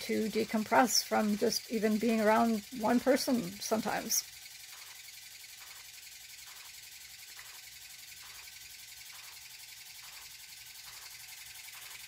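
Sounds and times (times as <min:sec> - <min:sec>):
soft pulse: 0:00.0 - 0:12.0.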